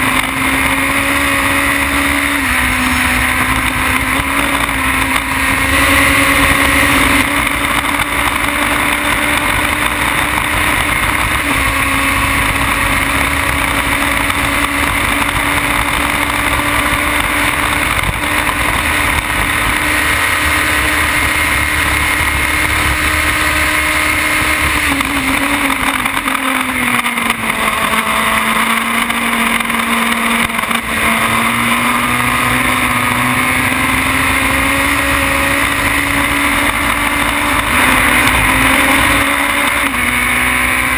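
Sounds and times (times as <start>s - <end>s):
race car engine at high revs: 0.0s - 40.9s
wind and road noise: 0.0s - 40.9s.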